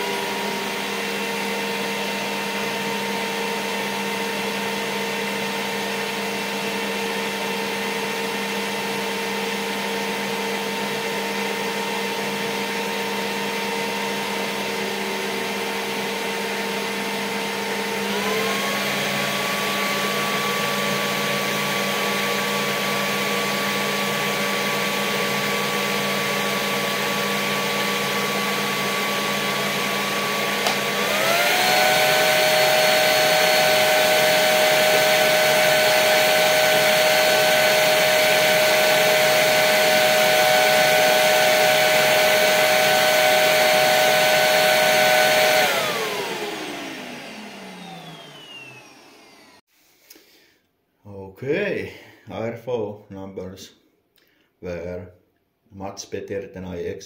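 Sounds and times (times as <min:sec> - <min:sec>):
vacuum cleaner motor whine: 0:00.0 - 0:49.7.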